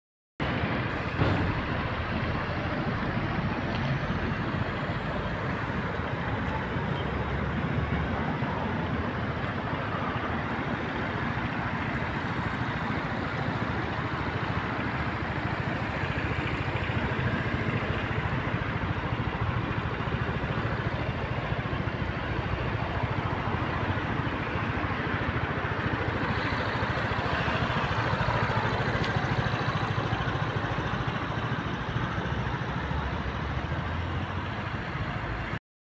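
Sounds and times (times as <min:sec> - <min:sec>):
scooter engine idling: 0:00.5 - 0:35.2.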